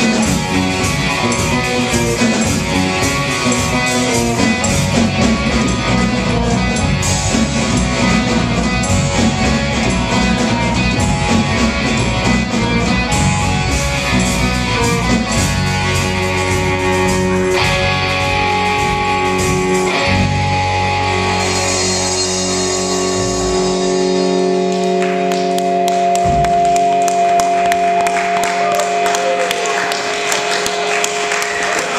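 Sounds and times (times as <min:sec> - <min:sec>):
rock band playing: 0:00.0 - 0:31.9.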